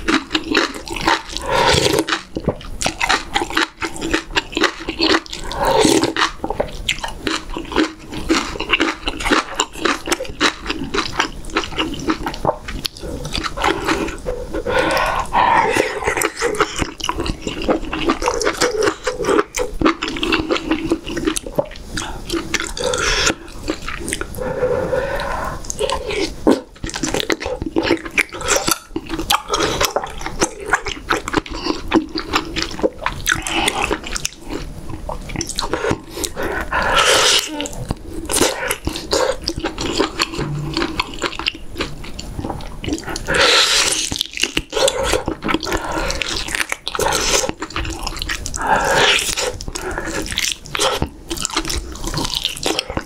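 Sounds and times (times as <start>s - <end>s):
wet chewing: 0.0s - 53.0s.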